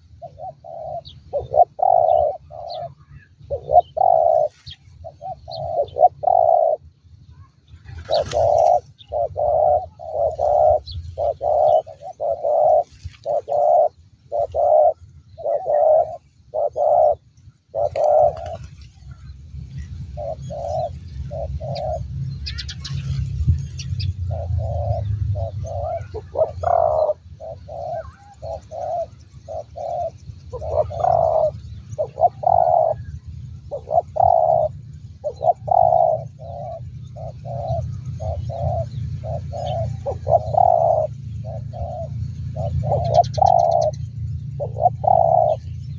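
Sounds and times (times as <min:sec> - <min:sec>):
doves cooing: 0:00.0 - 0:06.9, 0:07.6 - 0:45.9
low steady rumble: 0:00.0 - 0:45.9.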